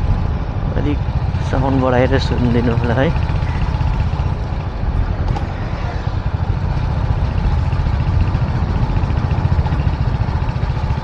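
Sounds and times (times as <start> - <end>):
low rumble of riding noise: 0.0 - 11.0
motorcycle engine running: 0.0 - 11.0.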